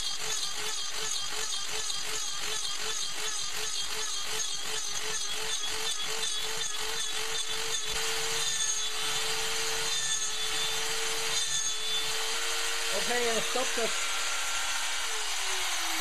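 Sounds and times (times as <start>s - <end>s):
rasping metal cutting: 0.0s - 16.0s.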